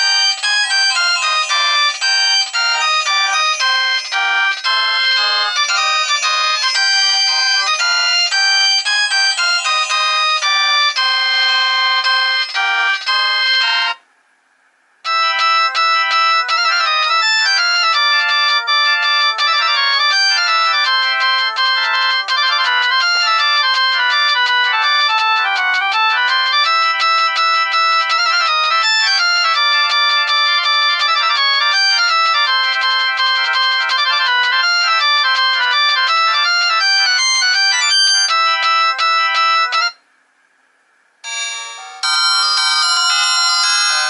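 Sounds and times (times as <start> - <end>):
electronic phone ringtone melody: 0.0 - 14.0, 15.1 - 40.0, 41.2 - 44.0.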